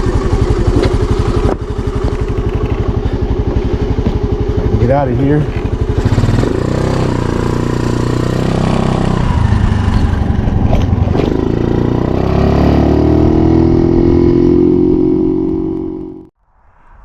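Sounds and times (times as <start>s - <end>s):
small motorcycle engine revving: 0.0s - 16.3s.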